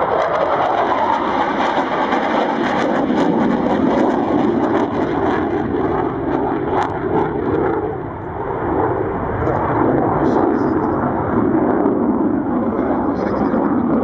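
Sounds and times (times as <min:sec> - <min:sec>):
jet engine rushing with crackle: 0:00.0 - 0:14.0.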